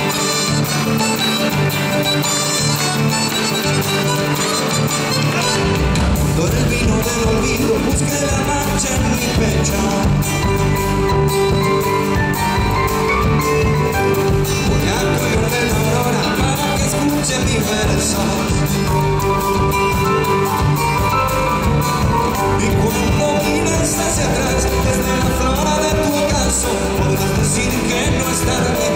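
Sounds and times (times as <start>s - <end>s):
live band playing folk music: 0.0s - 28.9s
man singing: 5.4s - 28.9s.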